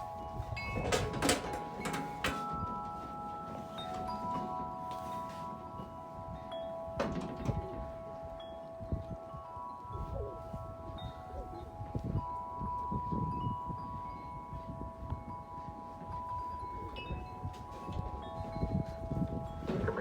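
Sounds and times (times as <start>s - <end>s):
wind chime ringing: 0.0s - 20.0s.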